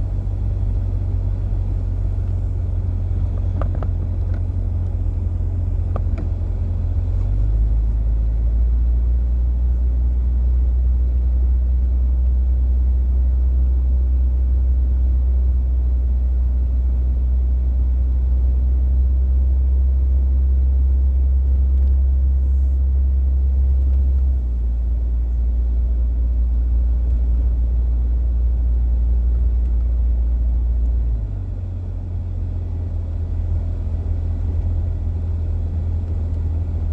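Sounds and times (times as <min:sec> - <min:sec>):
vehicle rumbling on snow: 0:00.0 - 0:36.9.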